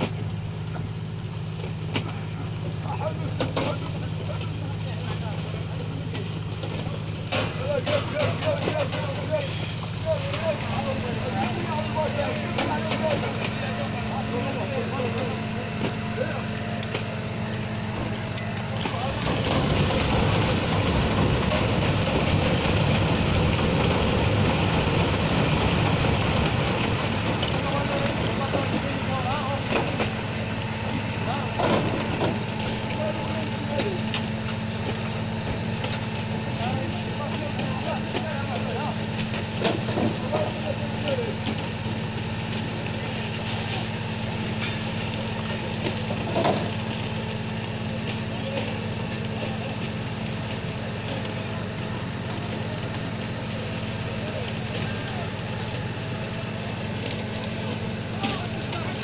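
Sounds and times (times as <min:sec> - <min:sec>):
small clicks and splashes: 0:00.0 - 0:13.7, 0:16.8 - 0:59.0
boat engine running: 0:00.0 - 0:59.0.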